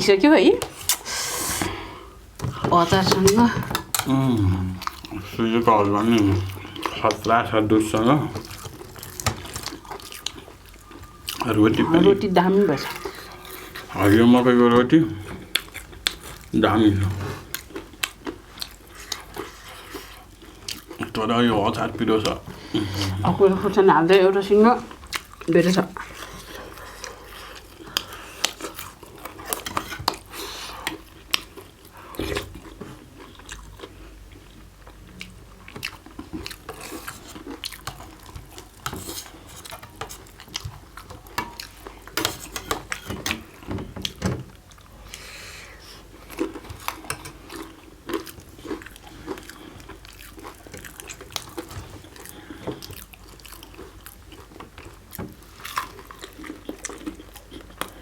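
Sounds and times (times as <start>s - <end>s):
people chewing: 0.5s - 58.0s.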